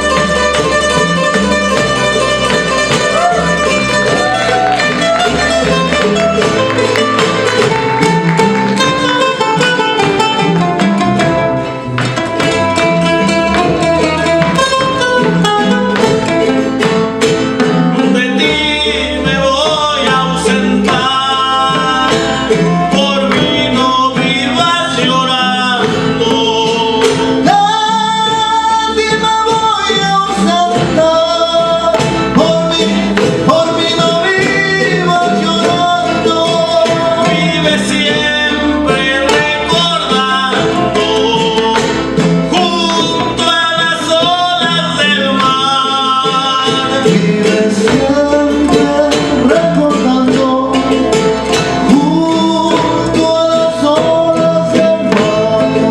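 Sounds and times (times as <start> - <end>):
person singing: 0.0 - 11.6, 17.8 - 55.9
bass: 0.0 - 55.9
plucked and strummed guitars: 0.0 - 55.9.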